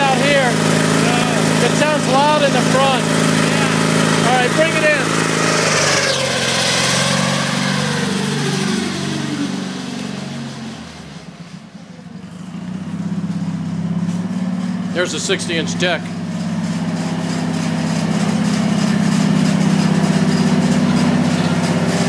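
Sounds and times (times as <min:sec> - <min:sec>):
garden tractor engine whining: 0:00.0 - 0:22.0.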